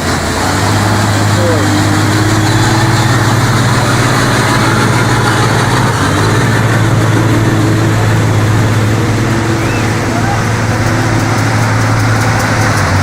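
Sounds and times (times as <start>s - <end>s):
heavy vehicle engine humming: 0.0s - 13.0s.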